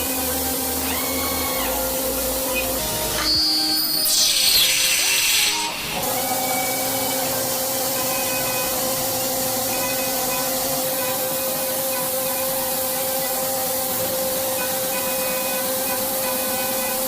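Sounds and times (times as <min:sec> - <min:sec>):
loud high hissing: 0:00.0 - 0:17.0
machinery hissing and humming: 0:00.0 - 0:17.0.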